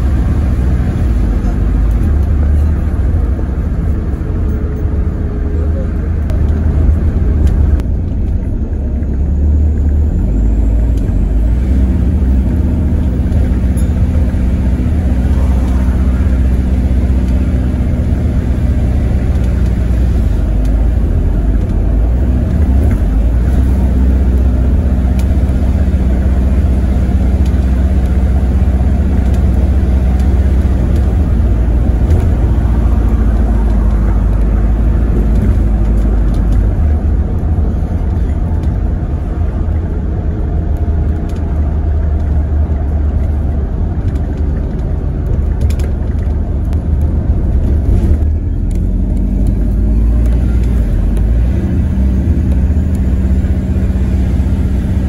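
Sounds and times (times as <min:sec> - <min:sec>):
bus engine rumble: 0:00.0 - 0:55.0
road noise: 0:00.0 - 0:55.0.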